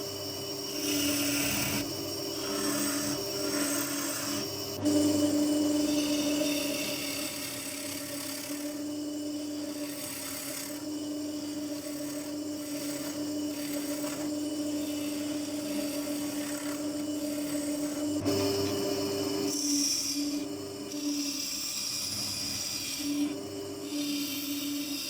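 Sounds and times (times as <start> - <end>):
wood lathe humming: 0.0 - 25.0
turning tool rasping on wood: 0.6 - 25.0.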